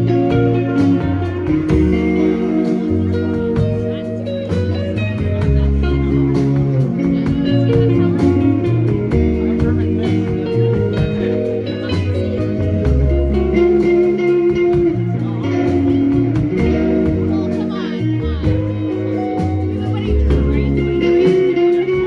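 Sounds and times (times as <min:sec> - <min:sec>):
bass guitar: 0:00.0 - 0:22.0
guitars: 0:00.0 - 0:22.0
steady drum beat: 0:00.0 - 0:22.0.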